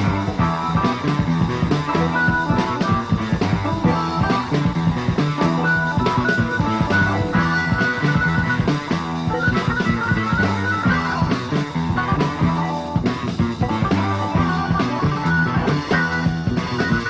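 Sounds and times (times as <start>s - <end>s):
drum beat: 0.0s - 17.0s
rock guitar: 0.0s - 17.0s.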